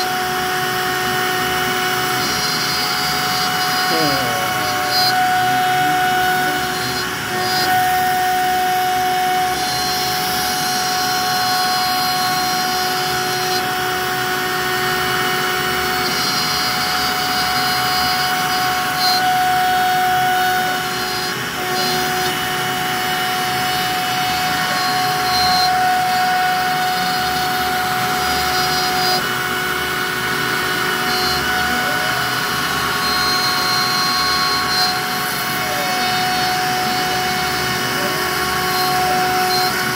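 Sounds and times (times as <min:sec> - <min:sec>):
router bit cutting wood: 0:00.0 - 0:39.9
router spindle whining: 0:00.0 - 0:39.9.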